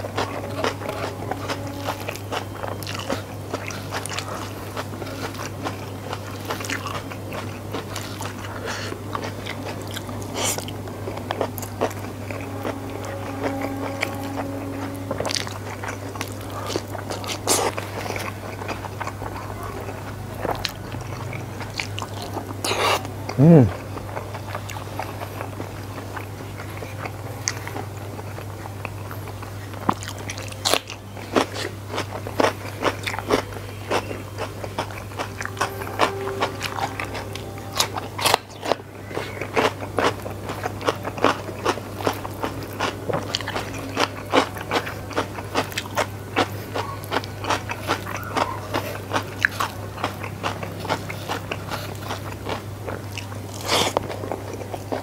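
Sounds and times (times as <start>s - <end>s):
low hum: 0.0s - 55.0s
wet chewing: 0.0s - 55.0s.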